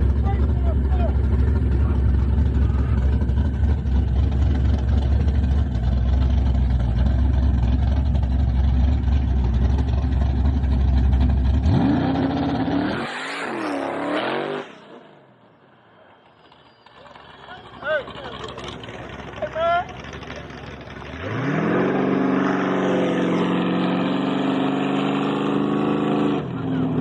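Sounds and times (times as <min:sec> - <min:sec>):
car engine idling and revving: 0:00.0 - 0:15.4, 0:16.2 - 0:27.0.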